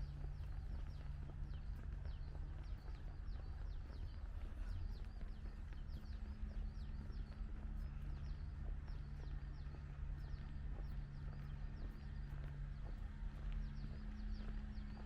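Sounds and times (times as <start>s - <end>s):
steady low hum: 0.0s - 15.0s
footsteps on paving: 0.2s - 15.0s.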